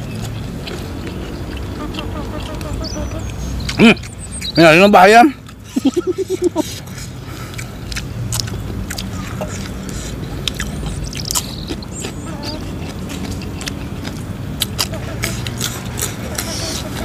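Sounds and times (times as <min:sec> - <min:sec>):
people chewing: 0:00.0 - 0:17.0.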